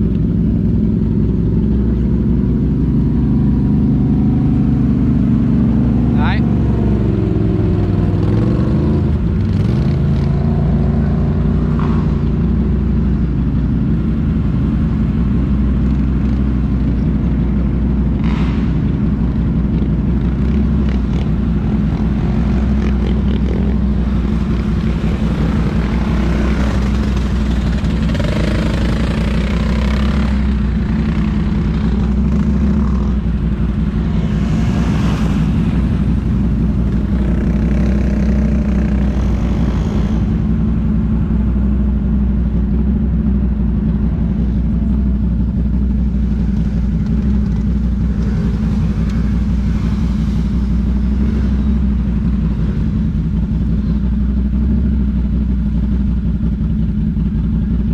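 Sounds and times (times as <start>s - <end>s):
atv engine idling: 0.0s - 6.9s, 11.0s - 57.9s
other atv engines running: 0.0s - 57.9s.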